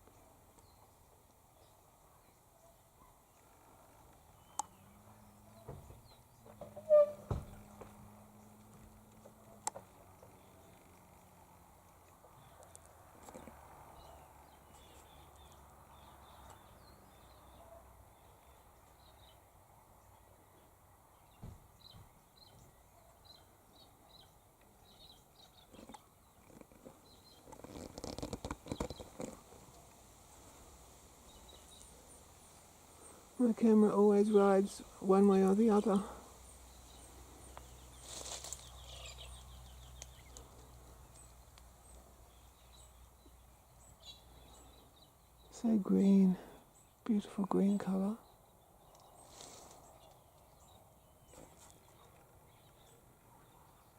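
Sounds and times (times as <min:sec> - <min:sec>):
birds chirping: 0:04.3 - 0:53.9.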